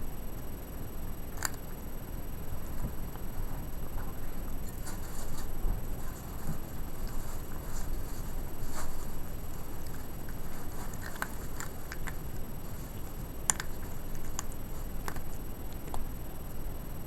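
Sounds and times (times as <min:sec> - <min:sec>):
steady low rumble: 0:00.4 - 0:17.0
cats chewing and crunching food: 0:01.2 - 0:16.6.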